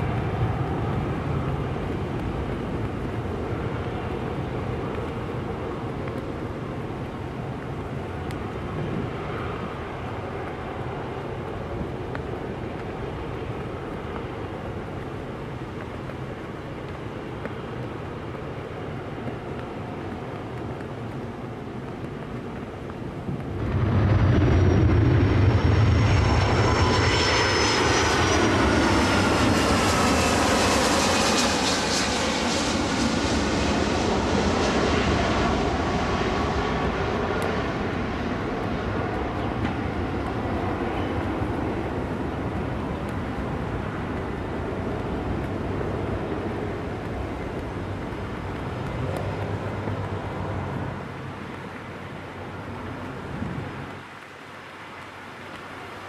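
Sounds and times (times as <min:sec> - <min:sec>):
jet airliner roaring overhead: 0:00.0 - 0:51.4.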